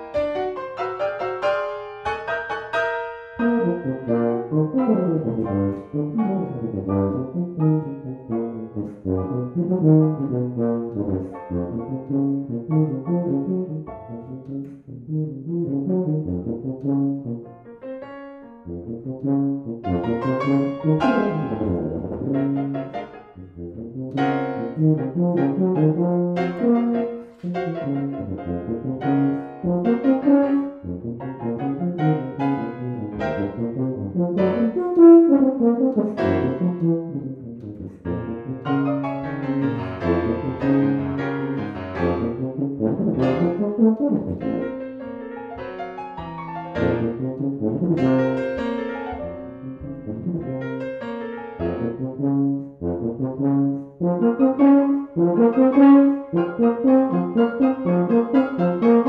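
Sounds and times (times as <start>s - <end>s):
piano accompaniment: 0.0s - 59.0s
tuba playing: 0.0s - 59.0s.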